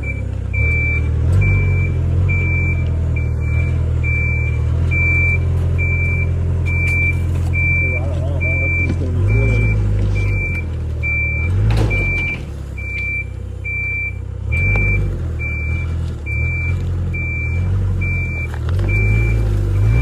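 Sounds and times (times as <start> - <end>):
heavy vehicle engine rumble: 0.0 - 20.0
reversing alarm beeping: 0.0 - 20.0.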